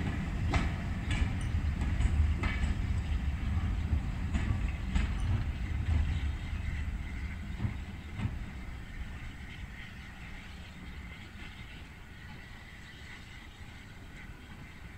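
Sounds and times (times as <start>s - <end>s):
steam train rumbling: 0.0s - 14.9s
train wheels clicking on track: 0.0s - 14.9s.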